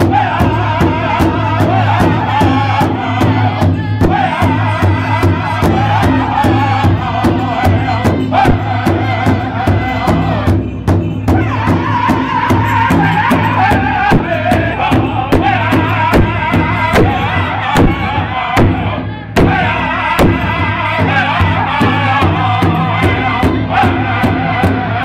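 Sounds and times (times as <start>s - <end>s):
big hide drum beat: 0.0s - 25.0s
men singing in unison: 0.0s - 25.0s.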